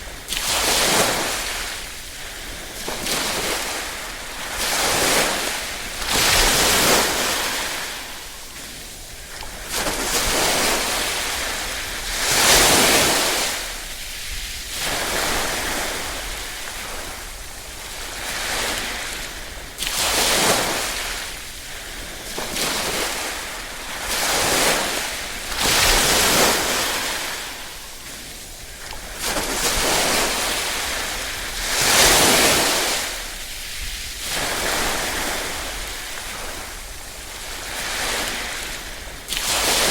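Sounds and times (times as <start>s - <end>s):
small waves lapping on shore: 0.0s - 39.9s.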